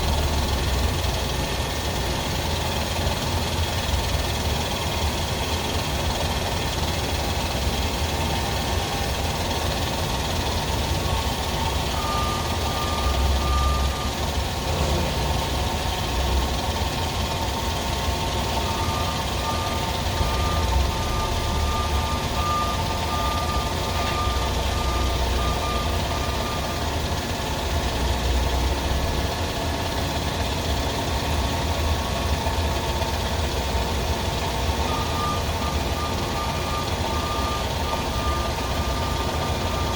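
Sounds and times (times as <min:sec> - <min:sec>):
machine running with low hum: 0:00.0 - 0:39.9.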